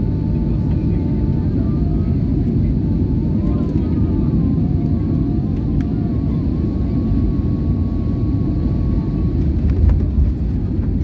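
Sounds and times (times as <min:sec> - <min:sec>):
jet engines and airflow rumble: 0:00.0 - 0:11.0.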